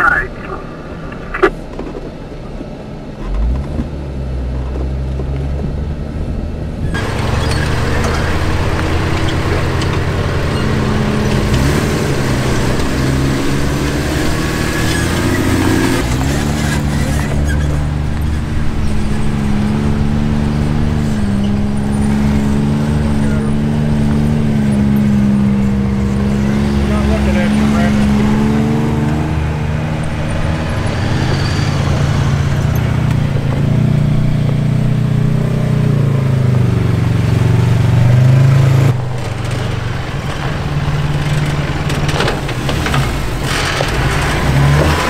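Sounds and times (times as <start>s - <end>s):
off-road vehicle engine: 0.0s - 45.0s
rushing tyres and wind: 0.0s - 45.0s.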